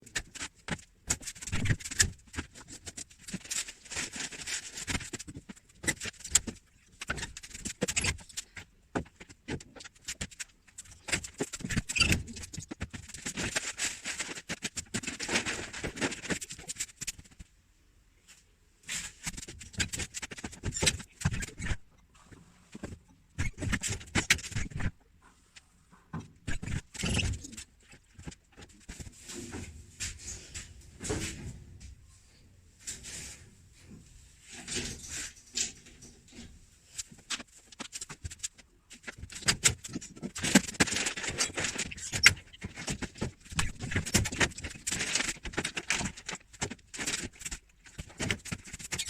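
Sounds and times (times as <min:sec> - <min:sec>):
scraping and rustling: 0:00.1 - 0:17.5, 0:18.3 - 0:49.0.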